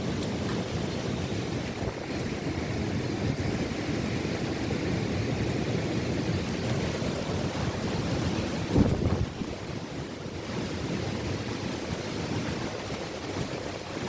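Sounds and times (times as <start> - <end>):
gusty wind on microphone: 0.0 - 14.0
rough surf rushing: 0.0 - 14.0.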